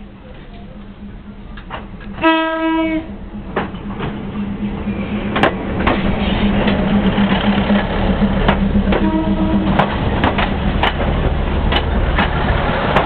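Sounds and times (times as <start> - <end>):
diesel railcar engine droning: 0.0 - 13.0
wheels clacking on rail joints: 0.1 - 13.0.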